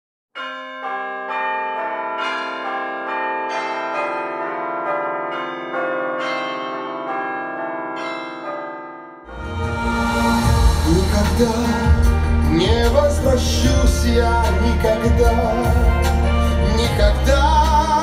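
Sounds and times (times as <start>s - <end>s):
bells ringing: 0.4s - 18.0s.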